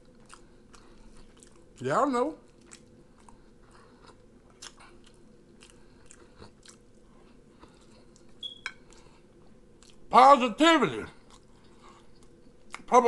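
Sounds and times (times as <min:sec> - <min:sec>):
man chewing food: 0:00.0 - 0:10.1, 0:11.1 - 0:12.9.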